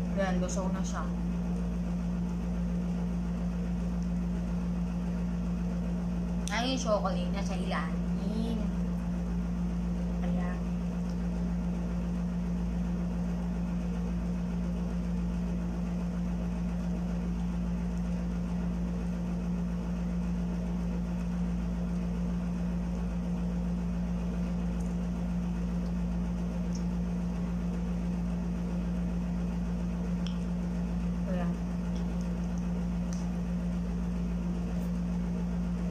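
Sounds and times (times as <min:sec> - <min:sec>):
air conditioner humming: 0:00.0 - 0:35.9.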